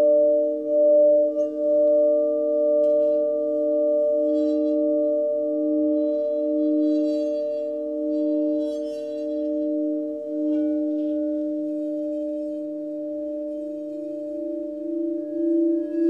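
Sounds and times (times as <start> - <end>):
crystal singing bowls ringing: 0.0 - 16.0.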